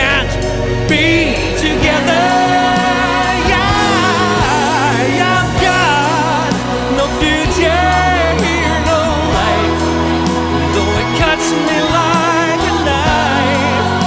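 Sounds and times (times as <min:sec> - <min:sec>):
pop ballad with lead vocal: 0:00.0 - 0:14.0.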